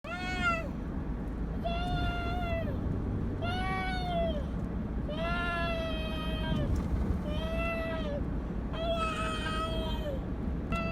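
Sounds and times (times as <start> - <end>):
car rumble: 0.0 - 10.9.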